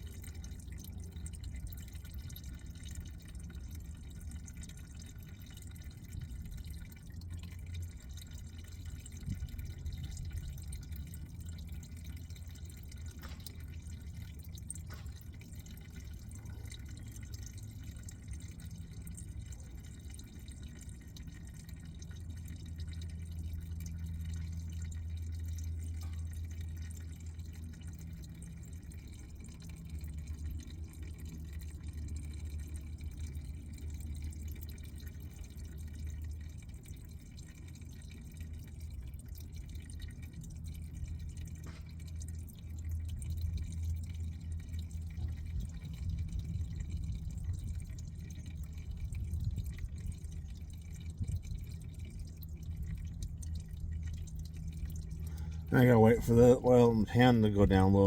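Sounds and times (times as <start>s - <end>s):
oil dripping into a pan: 0.0s - 58.0s.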